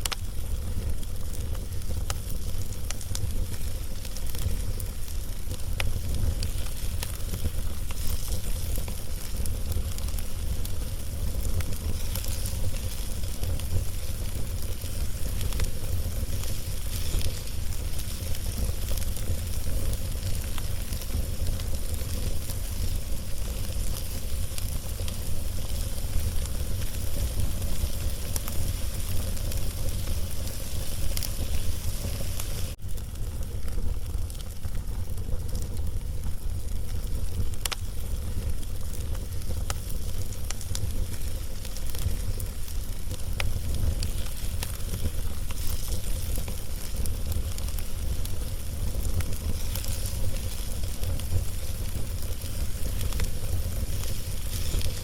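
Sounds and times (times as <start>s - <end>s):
steady hiss: 0.0s - 34.6s, 35.2s - 55.0s
log fire crackling: 0.0s - 55.0s.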